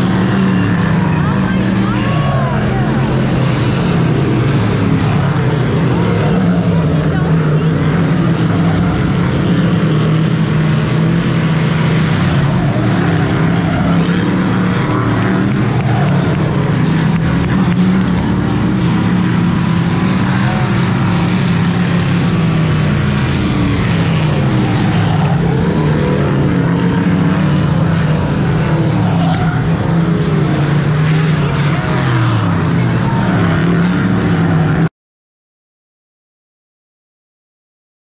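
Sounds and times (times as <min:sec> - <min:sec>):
race car engines: 0:00.0 - 0:34.9.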